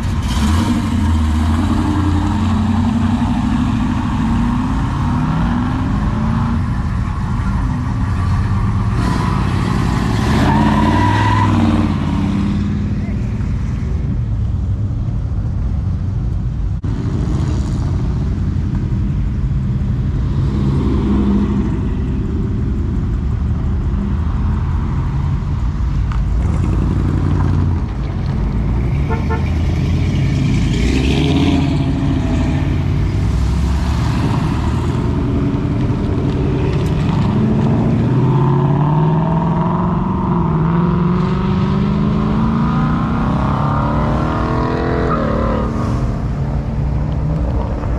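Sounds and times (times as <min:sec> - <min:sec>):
cars driving past slowly: 0:00.0 - 0:47.9.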